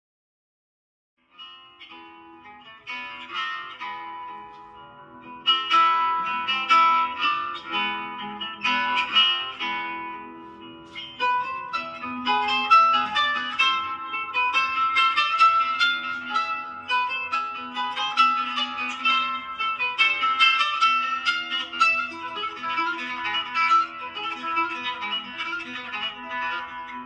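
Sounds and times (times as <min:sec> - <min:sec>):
plucked string melody: 0:01.2 - 0:27.0.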